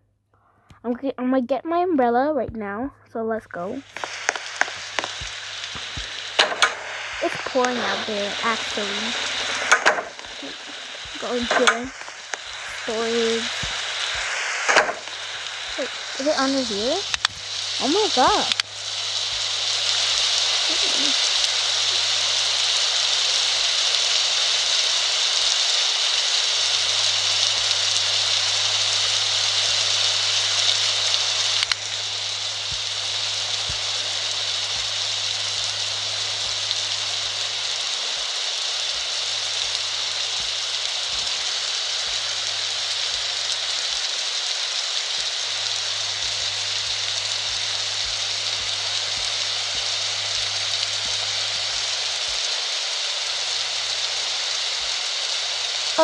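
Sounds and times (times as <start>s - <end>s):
heavy rain pouring: 3.6s - 56.0s.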